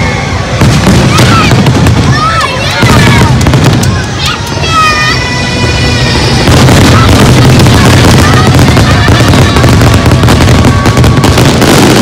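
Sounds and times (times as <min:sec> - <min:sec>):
fireworks bangs and crackling: 0:00.0 - 0:12.0
heavy low rumble: 0:00.0 - 0:12.0.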